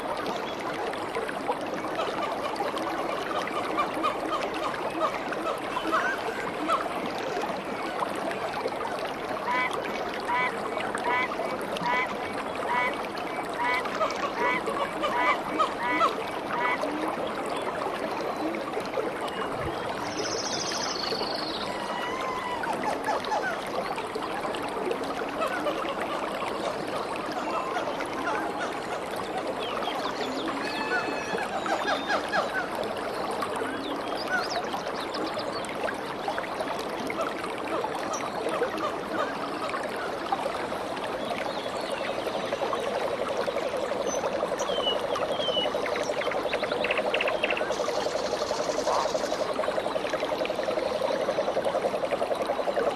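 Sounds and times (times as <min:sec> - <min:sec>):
stream running over rocks: 0:00.0 - 0:52.9.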